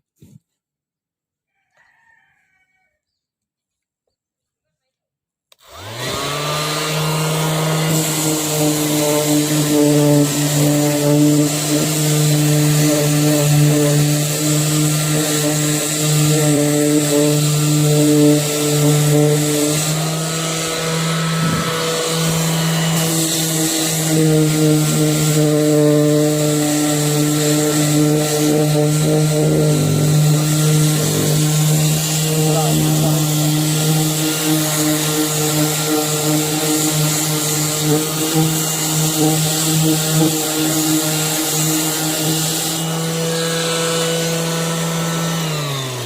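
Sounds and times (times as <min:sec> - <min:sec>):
orbital sander motor hum: 0:05.5 - 0:46.0
rasping sanding hiss: 0:06.5 - 0:46.0.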